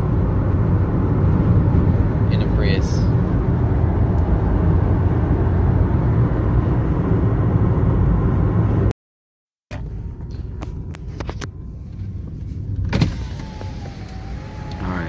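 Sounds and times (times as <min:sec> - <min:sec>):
car cabin road and wind noise: 0:00.0 - 0:08.9, 0:09.7 - 0:15.0.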